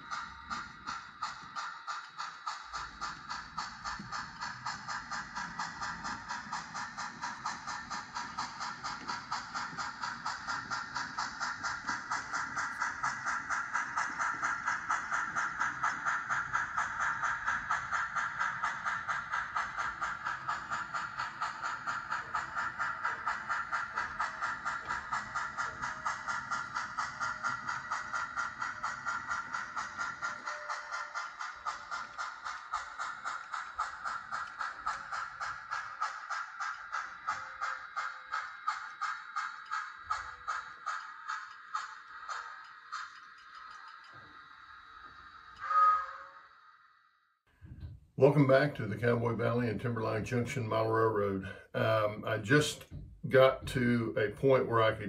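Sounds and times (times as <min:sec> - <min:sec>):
model train rhythmic clicking: 0:00.0 - 0:55.0.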